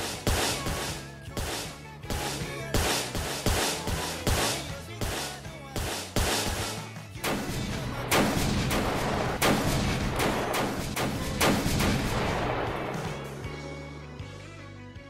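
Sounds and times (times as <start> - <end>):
heavy percussive hits: 0.0 - 12.5.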